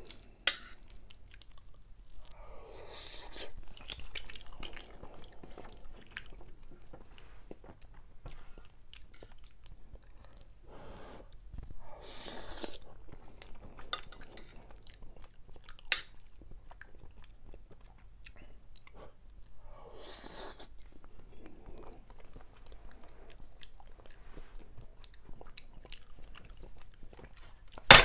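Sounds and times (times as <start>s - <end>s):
chewing with wet mouth sounds: 0.0s - 11.6s, 12.3s - 27.9s.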